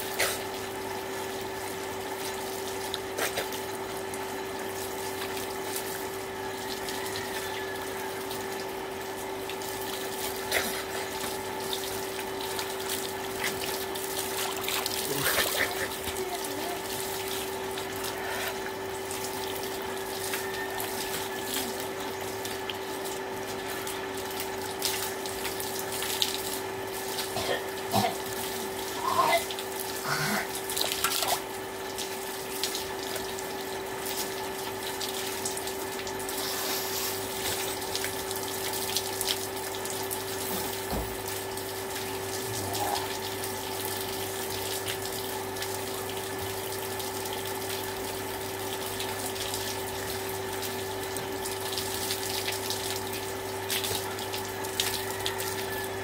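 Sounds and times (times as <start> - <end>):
steady hum: 0.0 - 54.8
water splashing from a hose: 0.0 - 56.0.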